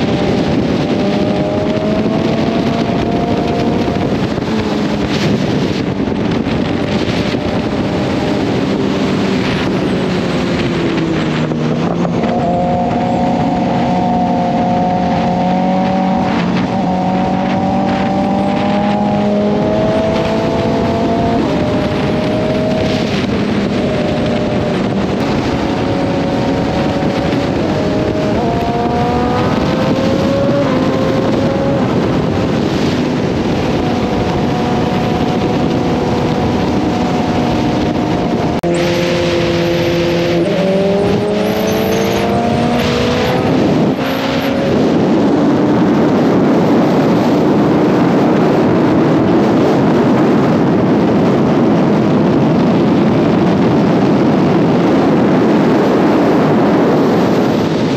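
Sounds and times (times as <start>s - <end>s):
motorcycle engine revving: 0.0s - 57.9s
wind and road noise rushing: 0.0s - 57.9s.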